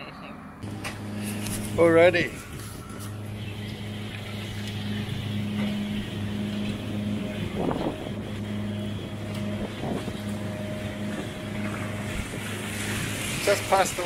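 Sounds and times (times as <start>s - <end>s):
boat engine humming: 0.5s - 14.0s.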